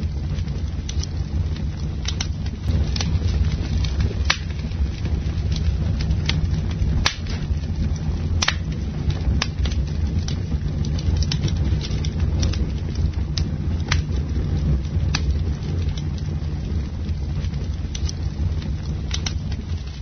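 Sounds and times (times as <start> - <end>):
campfire crackling: 0.0 - 20.0
low rumble of flames: 0.0 - 20.0.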